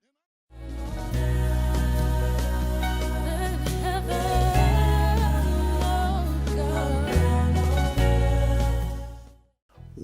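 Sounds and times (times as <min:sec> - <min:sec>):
gospel music with singing voice: 0:00.5 - 0:09.6.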